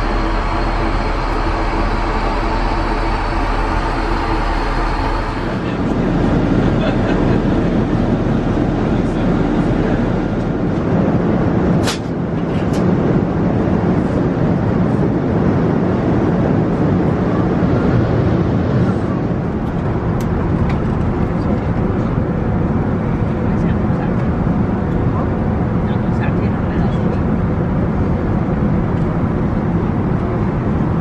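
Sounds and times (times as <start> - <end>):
airplane cabin rush: 0.0 - 31.0.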